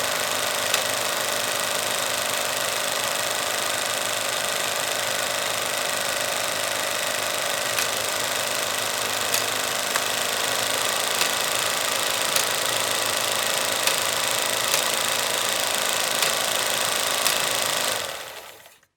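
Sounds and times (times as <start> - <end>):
film projector whirring: 0.0 - 18.9.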